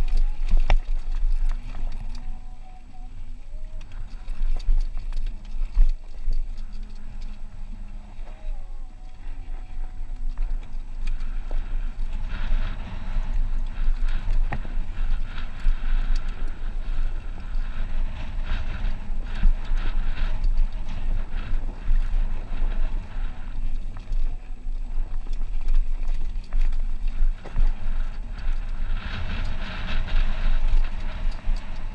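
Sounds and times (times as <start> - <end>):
motorcycle engine running: 0.0 - 31.9
wind buffeting microphone: 0.0 - 31.9.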